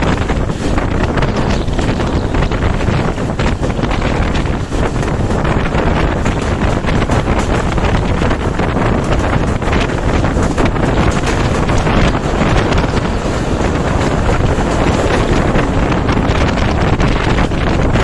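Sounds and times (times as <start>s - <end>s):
train wheels rushing on rail: 0.0s - 18.0s
wind buffeting microphone: 0.0s - 18.0s.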